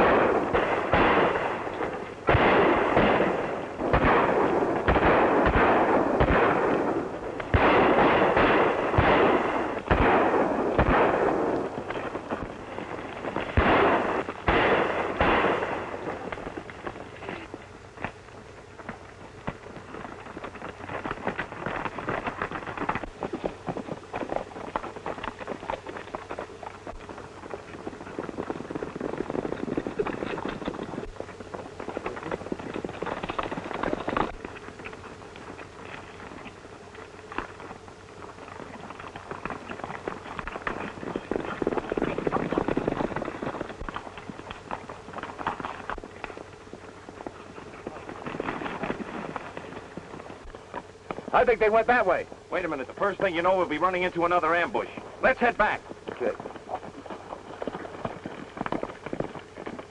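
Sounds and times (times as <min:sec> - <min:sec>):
faint soundtrack hum: 0:00.0 - 0:59.9
horses galloping hoofbeats: 0:00.0 - 0:59.9.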